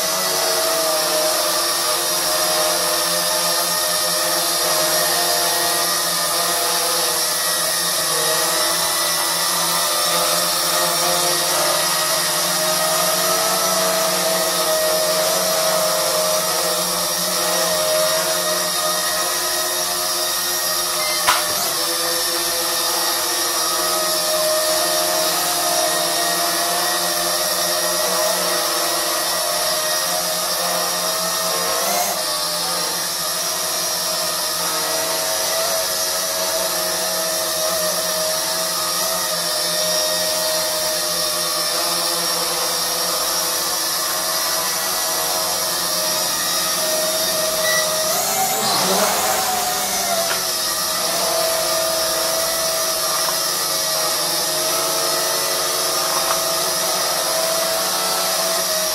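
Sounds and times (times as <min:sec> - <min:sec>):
quadcopter motors whining: 0:00.0 - 0:58.9.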